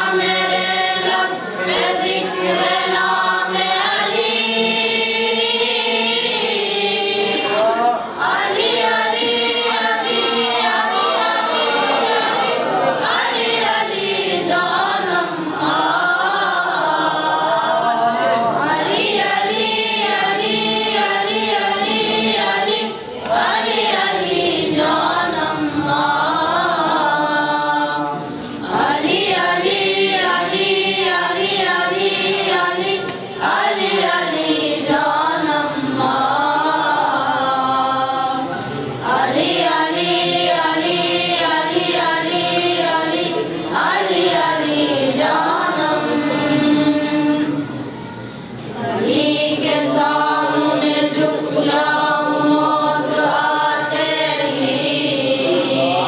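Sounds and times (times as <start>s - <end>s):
boys singing unaccompanied: 0.0s - 56.0s.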